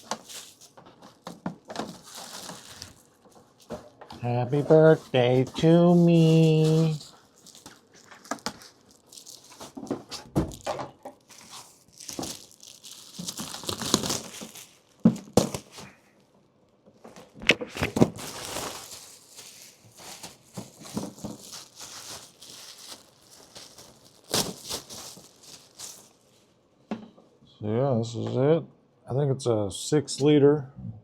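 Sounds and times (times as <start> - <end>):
packaging crinkling and tearing: 0.0 - 16.0, 17.1 - 26.4.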